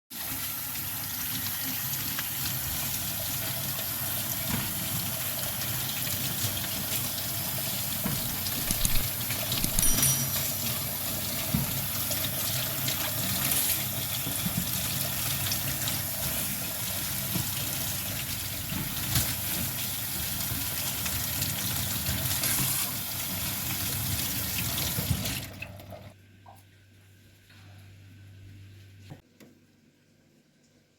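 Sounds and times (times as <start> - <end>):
tap water running into sink: 0.2 - 26.1.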